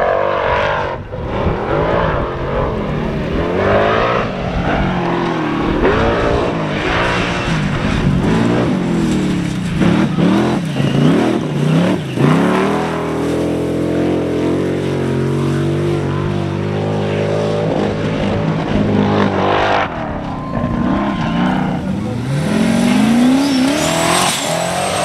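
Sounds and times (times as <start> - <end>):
buggy engine revving: 0.0 - 25.0.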